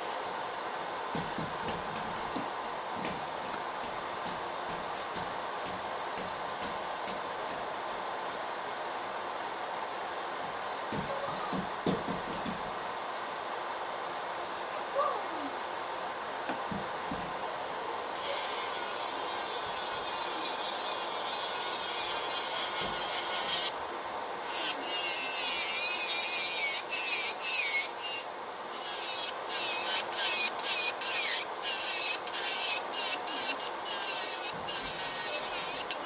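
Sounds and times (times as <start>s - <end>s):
steady fan-like hum: 0.0s - 36.0s.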